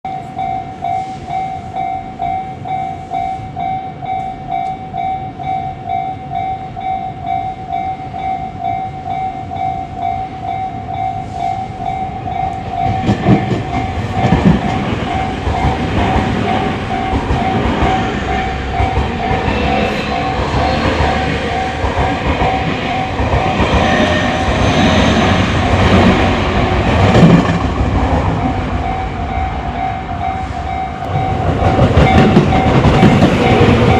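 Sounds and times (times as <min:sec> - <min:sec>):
level-crossing warning bell ringing: 0:00.1 - 0:27.1, 0:28.3 - 0:33.9.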